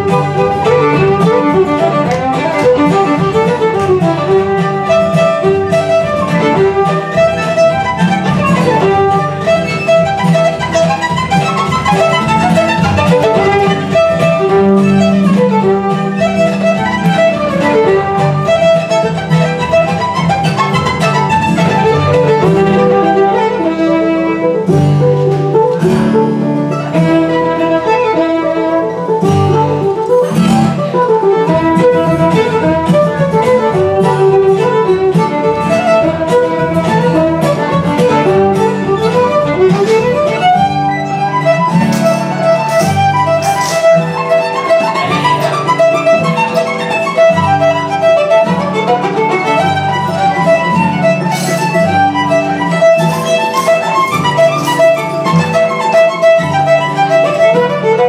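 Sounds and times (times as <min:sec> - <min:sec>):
fiddle playing a reel: 0:00.0 - 0:58.0.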